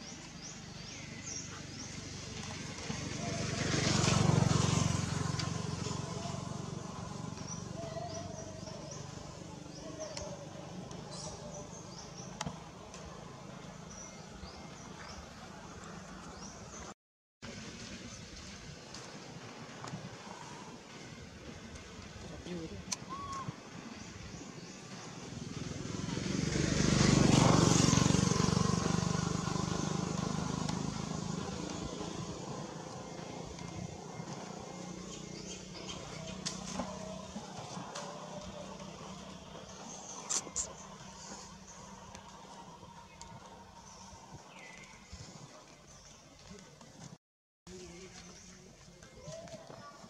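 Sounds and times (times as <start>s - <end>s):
vehicle engine humming: 0.0s - 22.9s, 23.8s - 50.0s.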